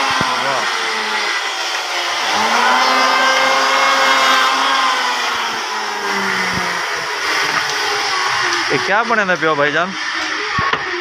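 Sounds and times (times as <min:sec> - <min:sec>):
electric wood planer whine: 0:00.0 - 0:11.0.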